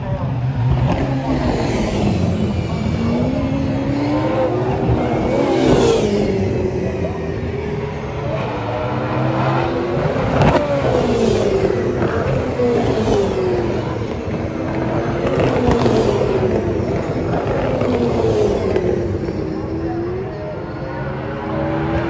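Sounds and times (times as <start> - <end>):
race cars passing at speed: 0.0 - 22.0.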